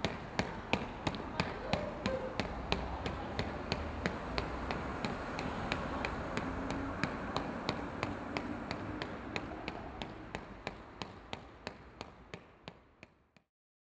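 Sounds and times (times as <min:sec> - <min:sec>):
sharp even taps: 0:00.0 - 0:13.2.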